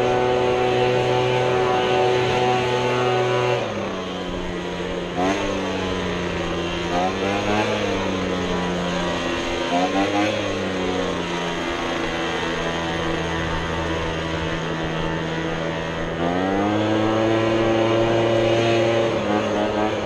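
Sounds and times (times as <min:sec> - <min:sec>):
small gasoline engine revving: 0:00.0 - 0:20.0.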